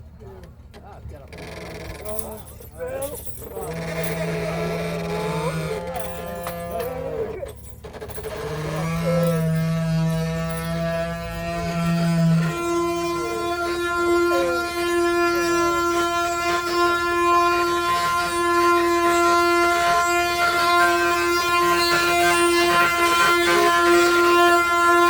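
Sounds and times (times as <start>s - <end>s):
wooden cart axle whining drone: 0.0s - 25.0s.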